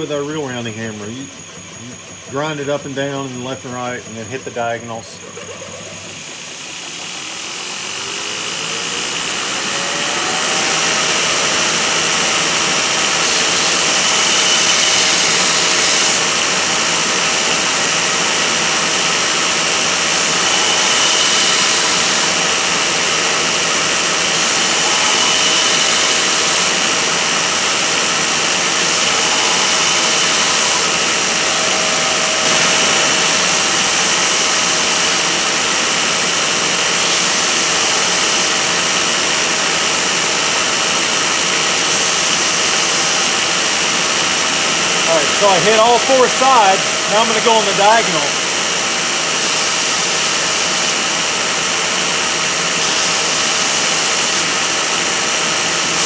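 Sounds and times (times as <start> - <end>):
electric grinder motor humming: 0.0 - 56.0
metal grinding hiss: 0.0 - 56.0.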